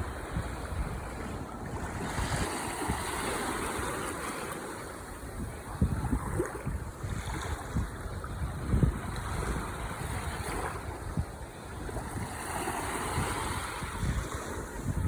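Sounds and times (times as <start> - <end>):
ocean waves washing ashore: 0.0 - 15.0
wind rumbling on microphone: 0.0 - 15.0.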